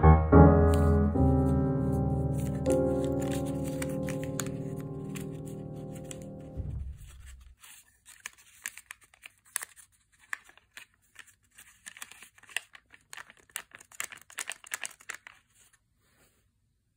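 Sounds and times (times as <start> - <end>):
paper being folded and creased: 0.7 - 15.9.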